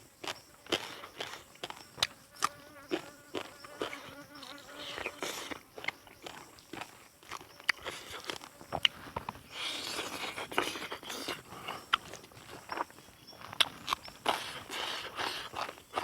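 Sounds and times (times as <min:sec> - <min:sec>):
chewing and handling food: 0:00.0 - 0:16.0.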